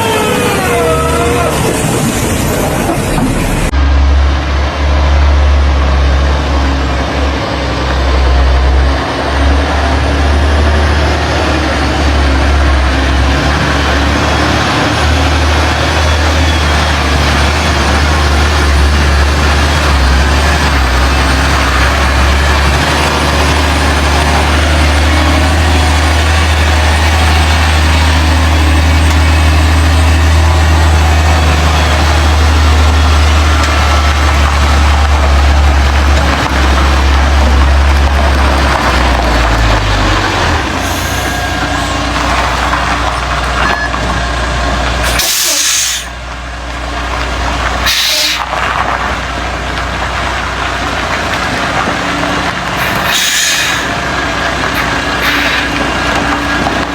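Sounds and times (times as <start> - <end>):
truck diesel engine running: 0.0 - 56.9.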